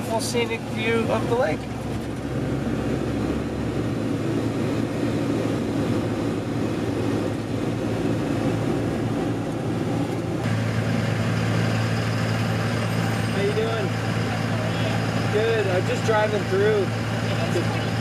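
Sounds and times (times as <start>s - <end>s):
engine hum: 0.0s - 18.0s
road and tyre noise: 0.0s - 18.0s.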